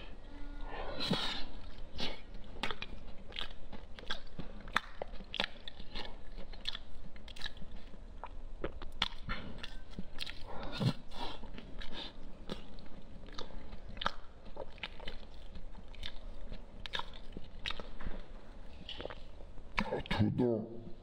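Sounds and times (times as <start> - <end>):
chewing with wet mouth clicks: 1.2 - 20.2.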